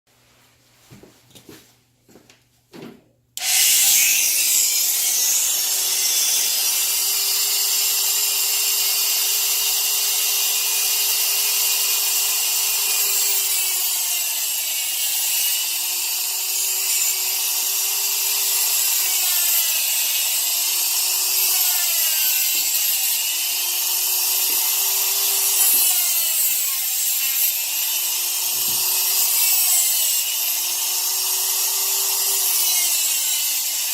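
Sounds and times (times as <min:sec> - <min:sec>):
power tool grinding: 0:03.4 - 0:33.9.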